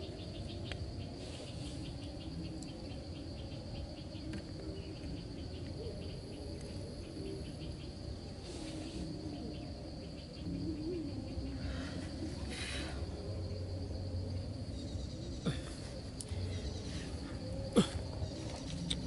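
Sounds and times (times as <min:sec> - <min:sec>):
continuous high buzz: 0:00.0 - 0:19.0
insects chirping: 0:00.0 - 0:19.0.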